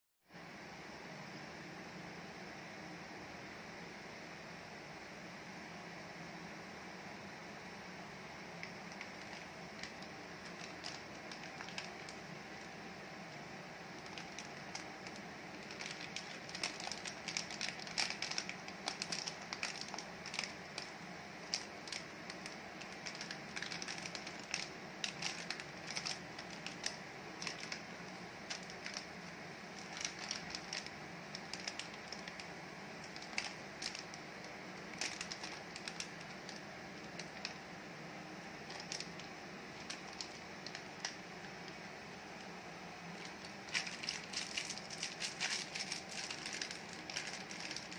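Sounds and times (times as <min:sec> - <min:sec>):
plastic wrappers crinkling: 0:08.6 - 0:37.8, 0:38.4 - 0:47.9.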